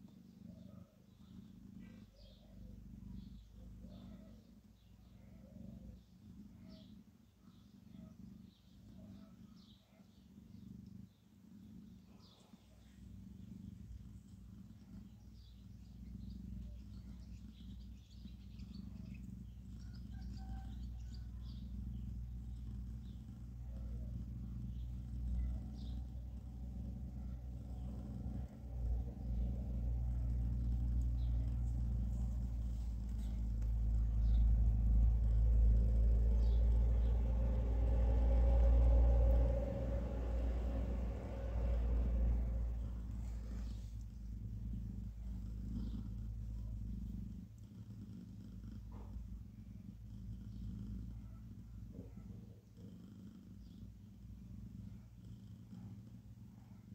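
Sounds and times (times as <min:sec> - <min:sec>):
cat purring: 0:00.0 - 0:56.9.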